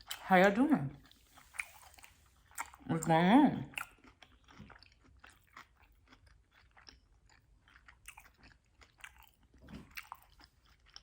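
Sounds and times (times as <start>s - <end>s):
chewing and smacking: 0.0s - 0.3s, 1.0s - 11.0s.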